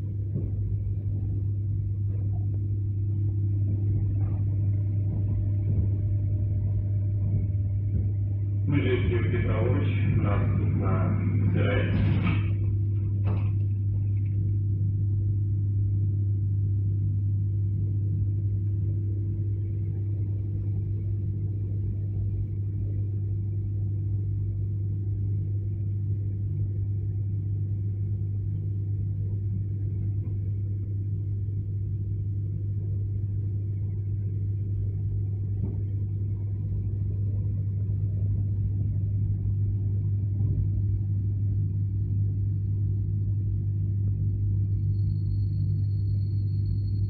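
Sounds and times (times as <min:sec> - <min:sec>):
train interior running noise: 0:00.0 - 0:47.0.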